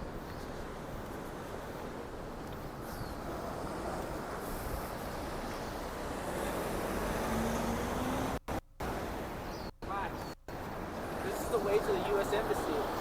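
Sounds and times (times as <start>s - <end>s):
traffic rushing: 0.0s - 13.0s
wind: 0.0s - 13.0s.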